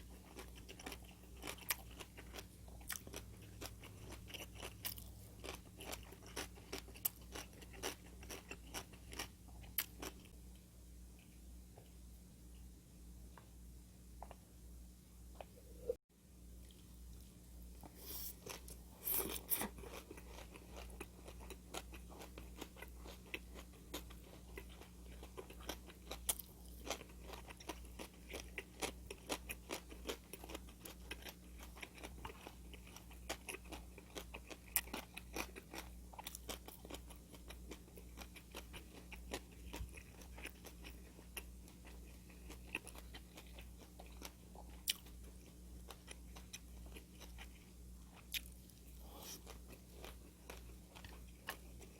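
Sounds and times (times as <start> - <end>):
person chewing crunchy food: 0.0 - 10.4, 16.6 - 51.9
faint electrical hum: 0.0 - 51.9.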